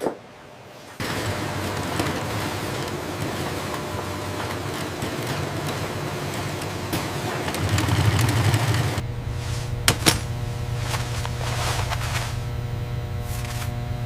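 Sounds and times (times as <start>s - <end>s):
factory machinery humming: 0.5s - 14.0s.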